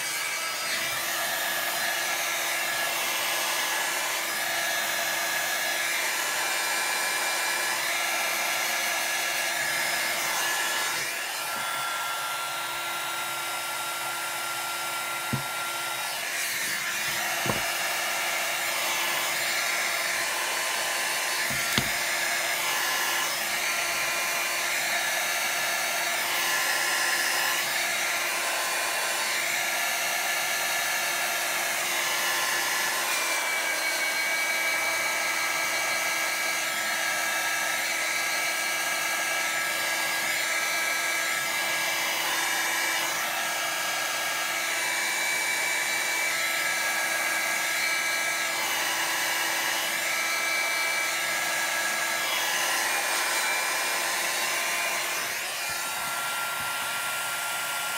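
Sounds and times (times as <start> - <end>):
hair dryer running: 0.0 - 57.9.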